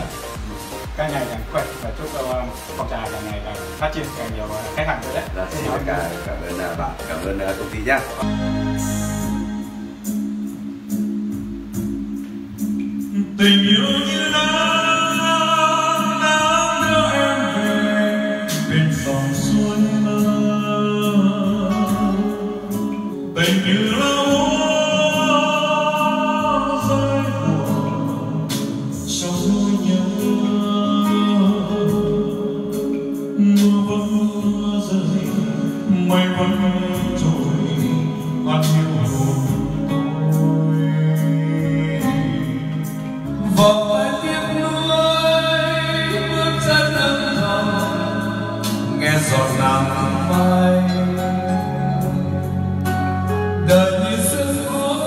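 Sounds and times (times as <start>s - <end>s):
instrumental accompaniment: 0.0s - 55.0s
person singing love song: 0.0s - 55.0s.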